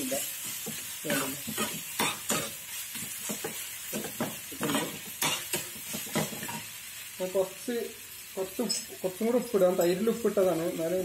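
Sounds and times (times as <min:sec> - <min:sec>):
light sizzle of frying vegetables: 0:00.0 - 0:11.0.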